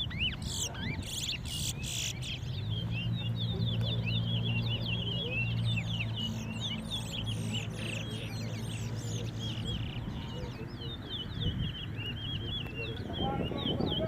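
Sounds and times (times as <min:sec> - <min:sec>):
finch singing rapid chirps: 0:00.0 - 0:14.0.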